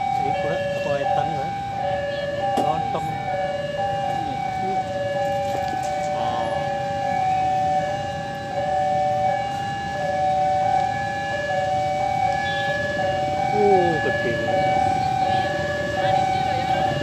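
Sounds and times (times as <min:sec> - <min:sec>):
level crossing alarm tones: 0:00.0 - 0:17.0.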